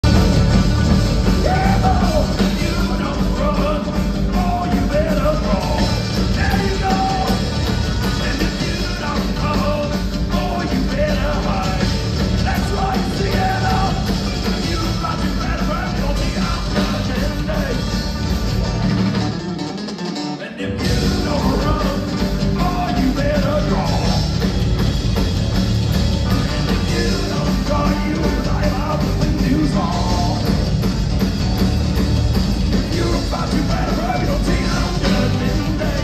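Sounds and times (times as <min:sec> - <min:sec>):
singer's voice: 0:00.0 - 0:18.1, 0:20.3 - 0:24.6, 0:26.2 - 0:30.8, 0:32.7 - 0:36.0
live band playing amplified music: 0:00.0 - 0:36.0.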